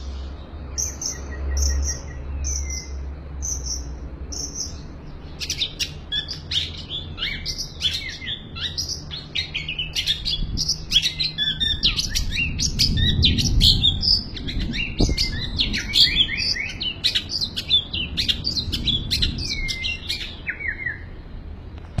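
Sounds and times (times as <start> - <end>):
bird singing varied song: 0.0 - 22.0.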